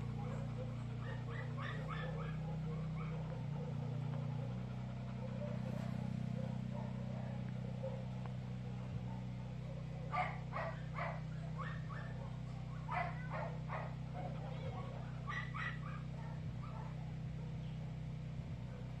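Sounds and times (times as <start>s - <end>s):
small dog barking: 0.0s - 19.0s.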